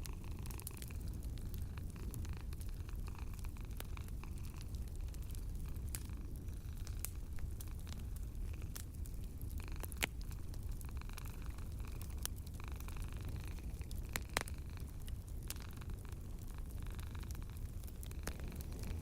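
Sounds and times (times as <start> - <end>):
cat purring: 0.0 - 19.0
wood fire crackling: 0.0 - 19.0.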